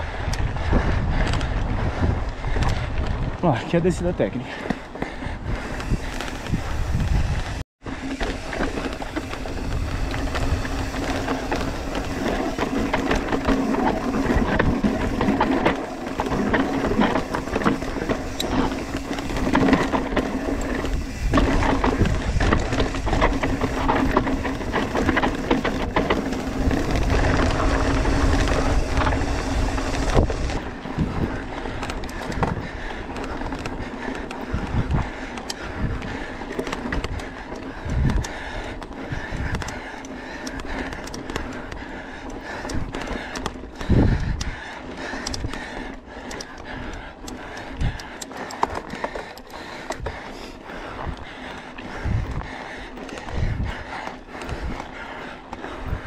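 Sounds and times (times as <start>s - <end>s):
bike rattling: 0.0s - 56.0s
wind rumbling on microphone: 0.0s - 56.0s
bike tyres crunching over stones: 1.1s - 56.0s.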